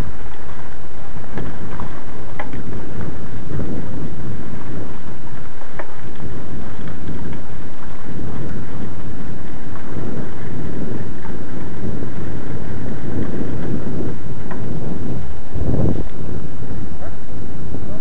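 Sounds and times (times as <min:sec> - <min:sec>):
bike rattling vibration: 0:00.0 - 0:17.1
wind rumble: 0:00.0 - 0:18.0.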